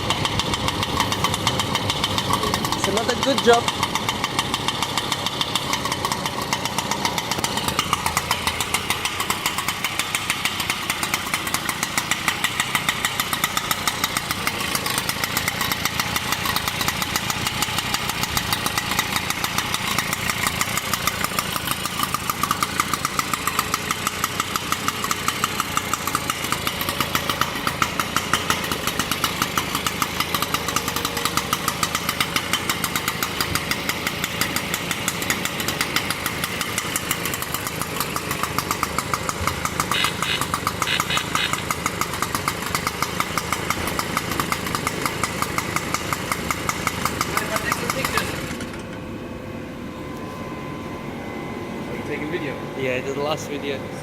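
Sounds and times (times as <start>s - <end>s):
moped engine idling: 0.0s - 54.0s.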